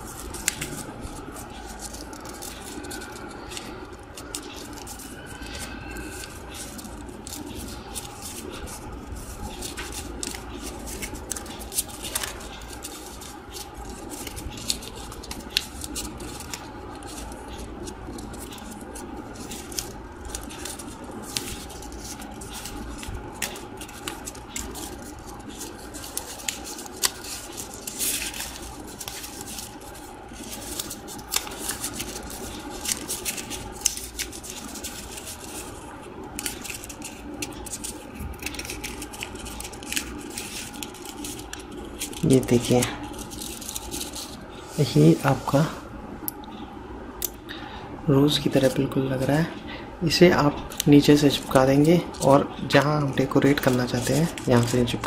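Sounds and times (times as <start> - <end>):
paper crinkling and crackling: 0.0 - 45.8, 48.2 - 55.0
faint steady hum: 0.0 - 55.0.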